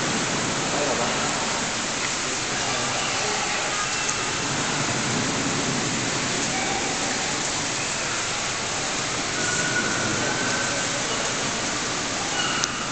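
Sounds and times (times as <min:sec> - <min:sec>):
rushing water: 0:00.0 - 0:12.9.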